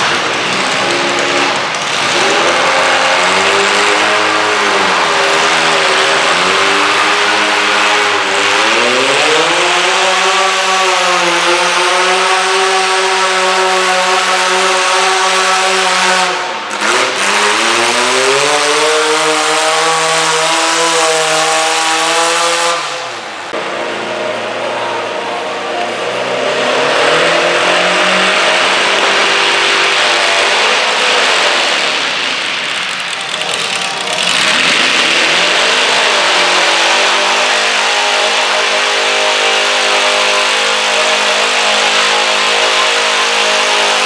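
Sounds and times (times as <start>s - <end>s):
tractor engine running hard: 0.0s - 44.0s.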